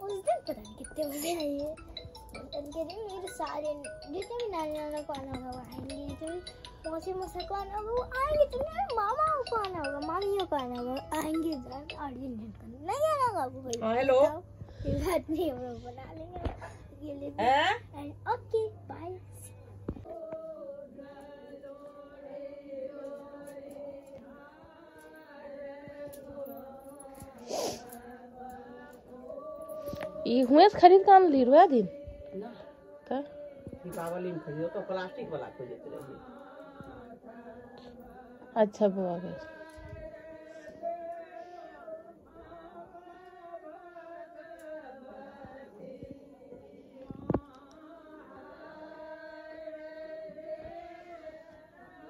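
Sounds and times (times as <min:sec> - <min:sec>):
devotional chanting: 0:00.0 - 0:52.0.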